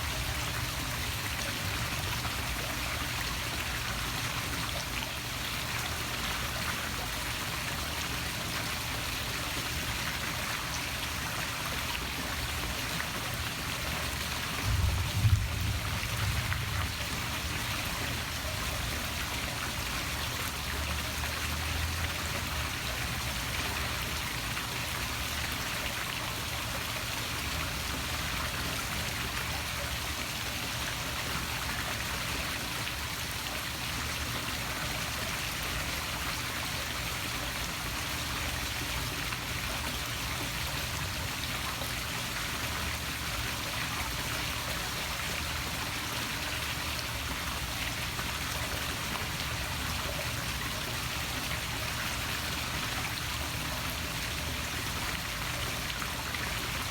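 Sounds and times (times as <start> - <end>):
waterfall splashing into pool: 0.0 - 56.9.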